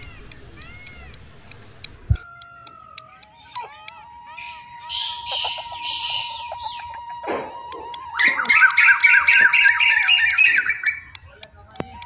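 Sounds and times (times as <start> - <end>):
birds squawking: 0.0 - 12.0.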